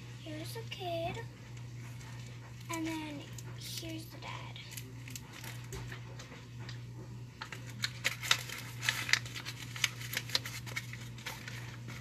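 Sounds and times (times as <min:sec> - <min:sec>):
paper crinkling and crackling: 0:01.4 - 0:12.0.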